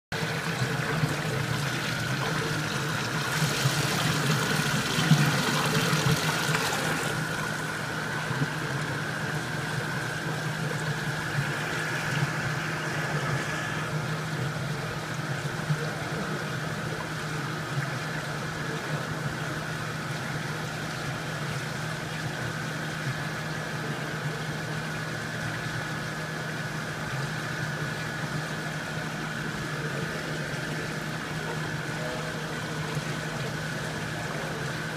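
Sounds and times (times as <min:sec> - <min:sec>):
machinery hum: 0:00.2 - 0:34.9.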